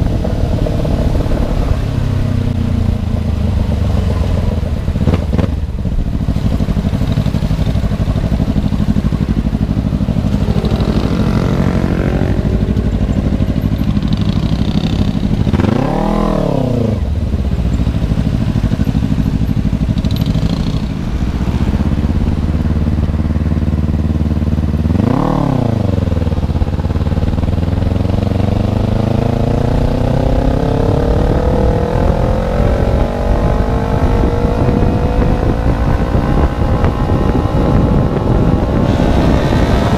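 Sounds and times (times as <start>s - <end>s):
motorcycle engine revving loudly: 6.3s - 17.2s, 18.1s - 39.9s.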